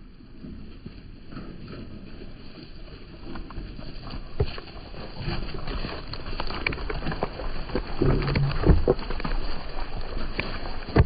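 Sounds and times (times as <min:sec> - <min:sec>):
sheep hooves trotting on wet grass: 0:00.4 - 0:11.0.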